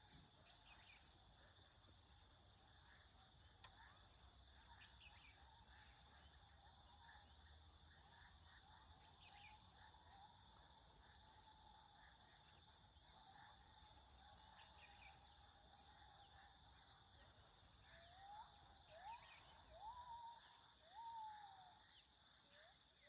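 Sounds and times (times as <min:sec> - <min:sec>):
birds chirping: 0:00.0 - 0:22.2.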